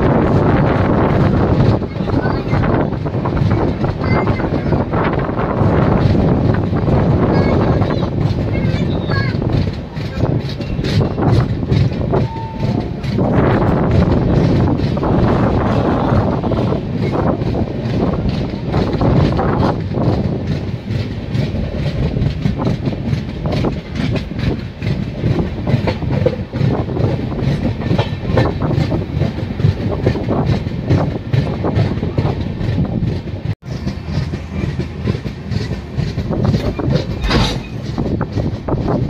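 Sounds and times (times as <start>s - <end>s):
clickety-clack over rail joints: 0.0s - 39.0s
loud train clatter: 0.0s - 39.0s
train wheels rumbling on rails: 0.0s - 39.0s.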